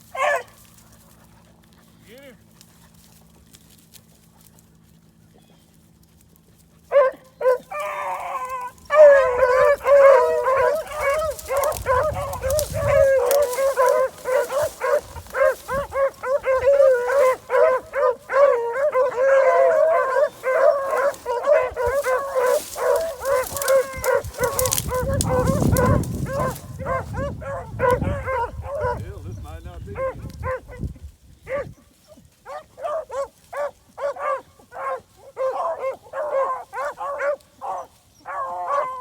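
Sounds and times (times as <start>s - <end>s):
hounds baying and howling: 0.0s - 1.8s, 2.7s - 39.0s.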